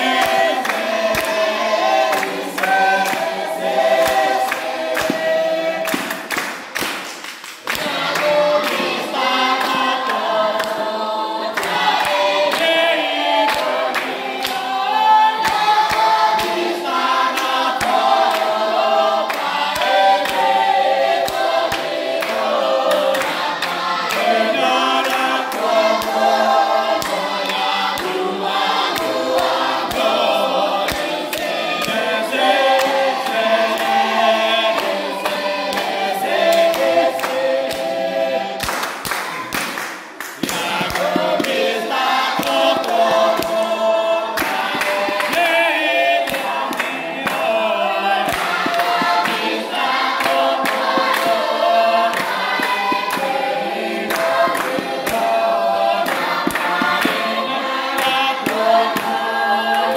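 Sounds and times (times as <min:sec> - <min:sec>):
children singing: 0:00.0 - 0:06.4, 0:07.6 - 0:39.8, 0:40.4 - 0:59.9
hand claps: 0:00.0 - 0:59.9.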